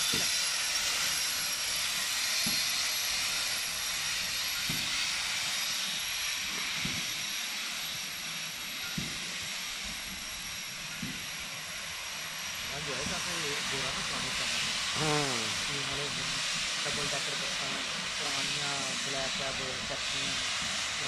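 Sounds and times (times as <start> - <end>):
locomotive steam hissing: 0.0 - 21.0.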